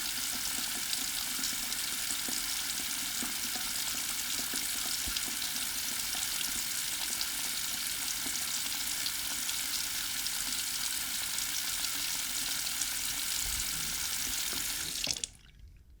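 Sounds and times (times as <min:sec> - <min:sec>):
faucet running into sink: 0:00.0 - 0:15.7.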